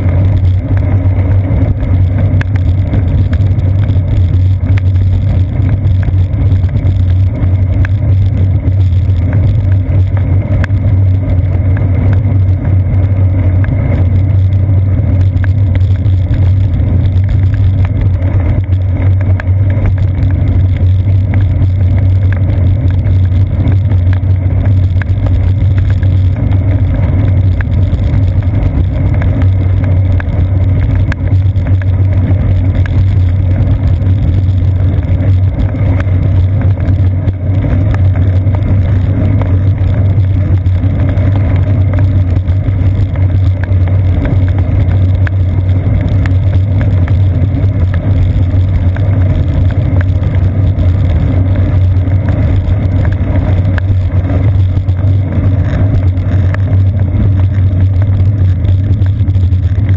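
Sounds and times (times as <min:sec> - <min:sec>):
bicycle rolling over wet pavement: 0:00.0 - 0:59.9
faint ticks: 0:02.1 - 0:10.9, 0:13.6 - 0:59.9.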